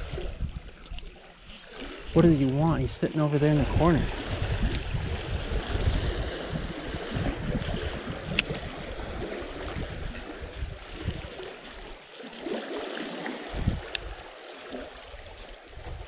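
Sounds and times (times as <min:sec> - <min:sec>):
water churning and rushing: 0:00.0 - 0:16.0.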